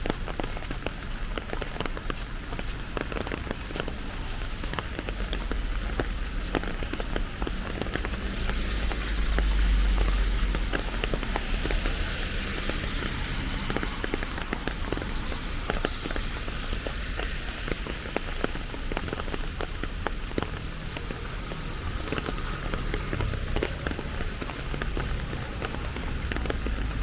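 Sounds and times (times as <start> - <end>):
raindrop impacts ticking: 0.0 - 27.0
steady rain falling: 0.0 - 27.0.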